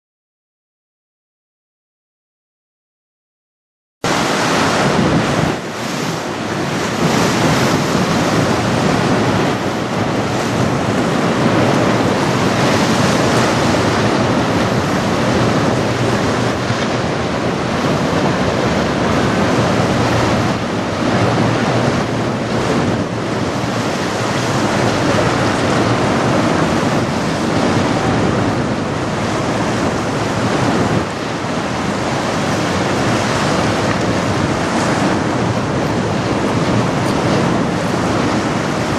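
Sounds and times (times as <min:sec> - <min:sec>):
choppy water rushing: 0:04.0 - 0:38.9
wind buffeting microphone: 0:04.1 - 0:38.9.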